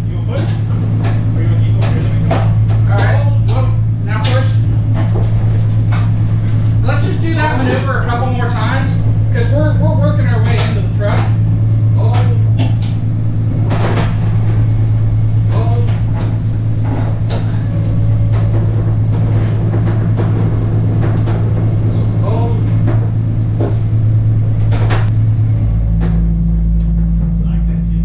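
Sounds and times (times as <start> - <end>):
engine droning: 0.0 - 28.0
knocks and creaks of heavy machine: 0.0 - 28.0.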